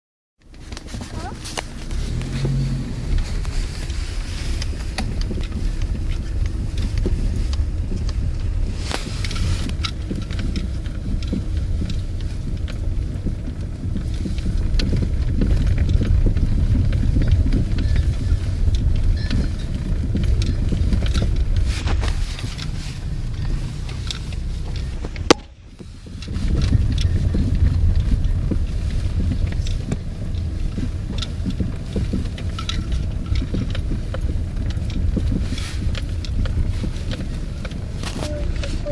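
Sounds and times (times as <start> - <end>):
road rumble: 0.4 - 38.9
suspension knocks: 0.5 - 38.9.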